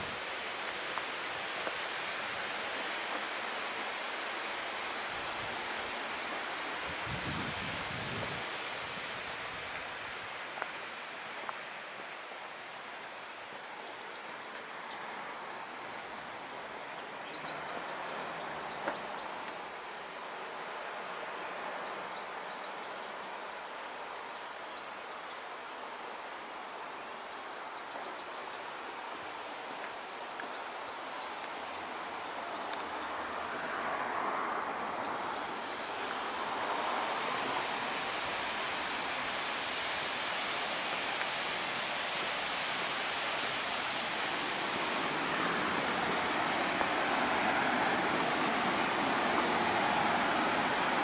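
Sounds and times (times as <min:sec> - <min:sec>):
flowing water: 0:00.0 - 0:51.0.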